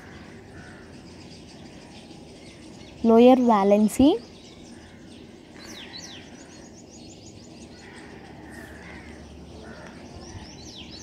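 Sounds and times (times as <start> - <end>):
faint steady background noise: 0.0 - 11.0
small birds chirping: 0.0 - 11.0.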